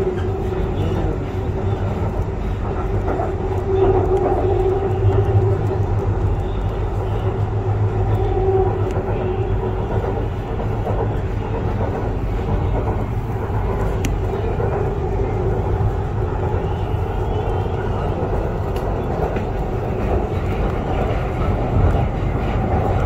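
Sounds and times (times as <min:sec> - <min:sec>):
train rumbling inside carriage: 0:00.0 - 0:23.0.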